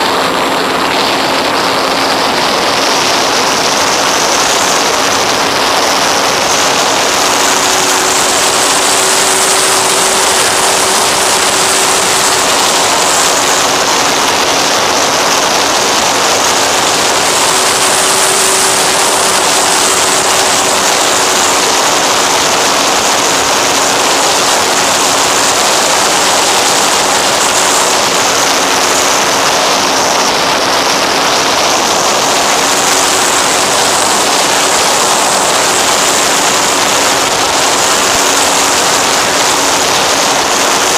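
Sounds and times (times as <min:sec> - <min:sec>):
motor and propeller humming: 0:00.0 - 0:40.9.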